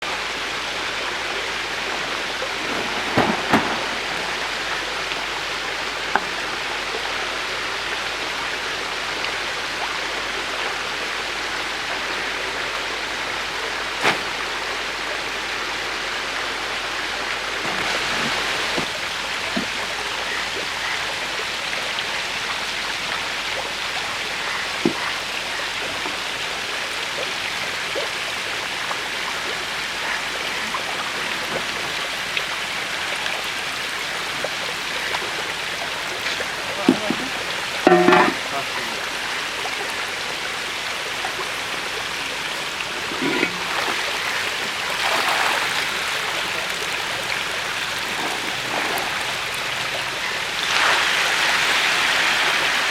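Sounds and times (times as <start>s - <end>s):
water splashing: 0.0s - 8.3s, 17.2s - 52.9s.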